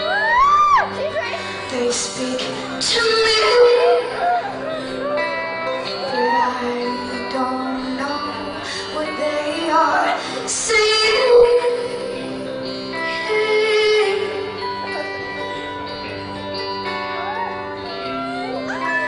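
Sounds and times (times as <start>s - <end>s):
woman singing into microphone: 0.0s - 19.0s.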